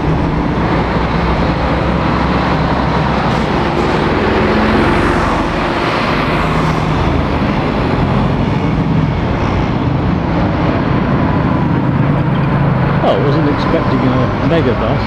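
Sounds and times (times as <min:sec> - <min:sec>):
bus driving past: 0:00.0 - 0:15.0
truck driving past: 0:00.0 - 0:15.0.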